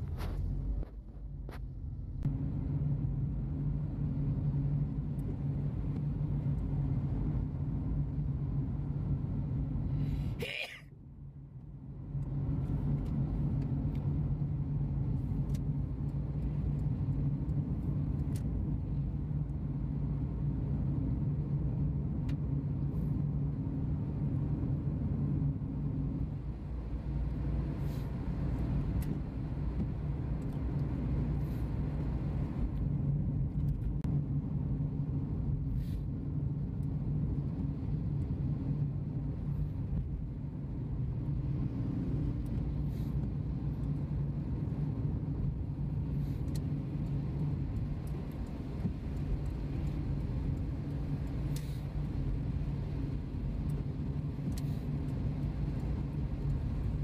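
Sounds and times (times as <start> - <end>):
road noise: 0.0 - 57.0
vehicle engine hum: 0.0 - 57.0.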